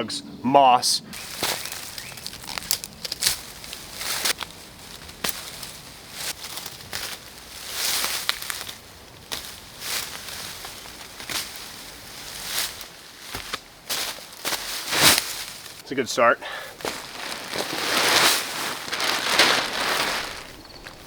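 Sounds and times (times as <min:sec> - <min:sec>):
leaves and twigs rustling and snapping: 0:01.2 - 0:15.8, 0:16.7 - 0:21.0.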